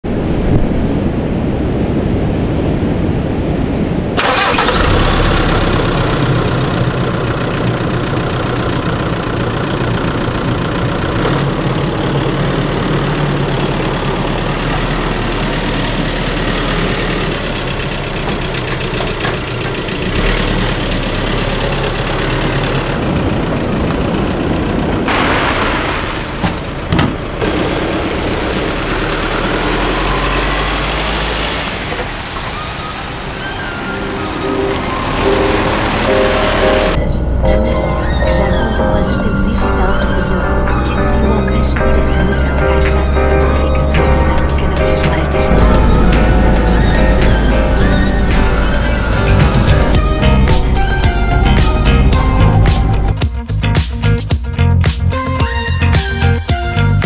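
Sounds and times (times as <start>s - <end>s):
vehicle engine humming: 0.0s - 57.0s.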